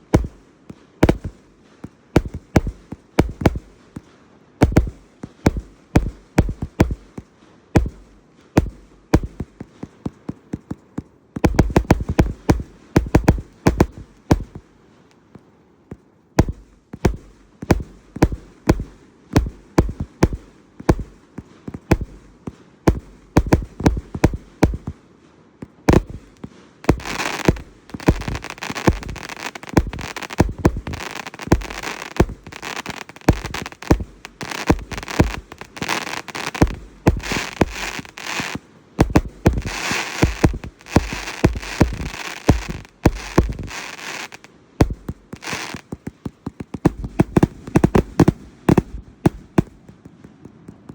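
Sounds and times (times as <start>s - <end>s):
dense firework crackling: 0.0s - 50.9s
firework launch thumps and bursts: 0.0s - 50.9s.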